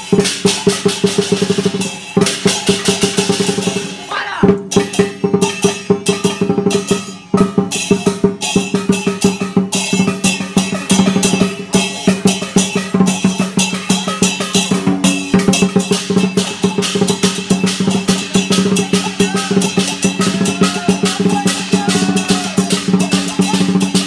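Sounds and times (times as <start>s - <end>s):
cymbals clashing: 0.0s - 24.0s
large drums beating: 0.0s - 24.0s.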